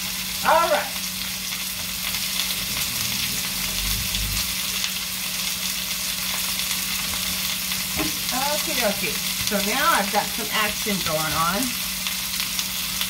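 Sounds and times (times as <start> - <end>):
squash sizzling in hot oil: 0.0 - 13.0.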